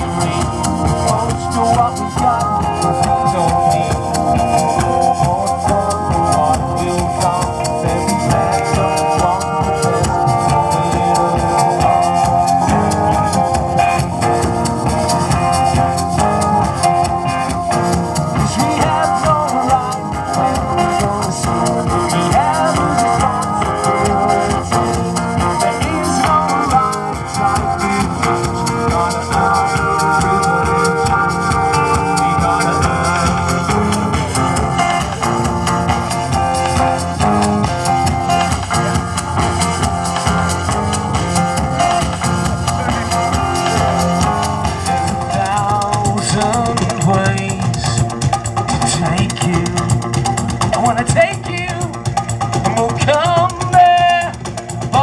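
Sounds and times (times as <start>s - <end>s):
live band playing: 0.0s - 55.0s
percussion beat: 0.0s - 55.0s.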